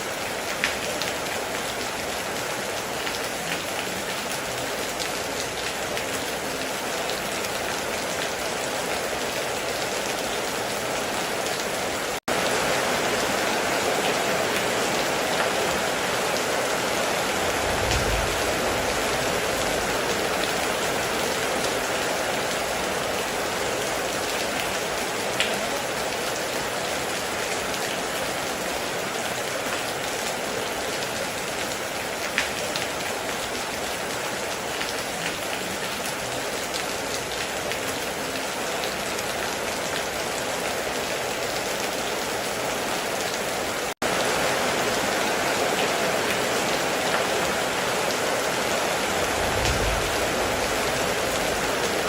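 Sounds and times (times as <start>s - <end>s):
heavy rain on metal roof: 0.0s - 52.0s.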